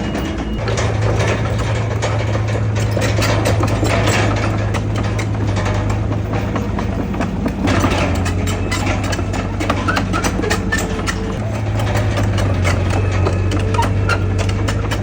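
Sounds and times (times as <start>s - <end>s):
heavy diesel engine running: 0.0s - 15.0s
metallic clanks and rattles: 0.0s - 15.0s.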